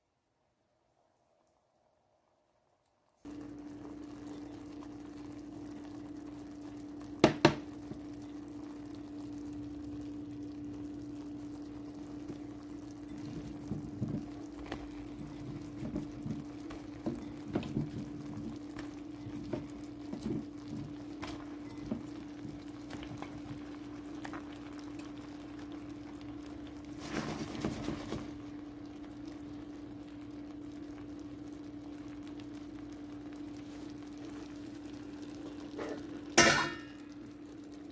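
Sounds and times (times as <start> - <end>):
food simmering in a wok: 0.4 - 37.9.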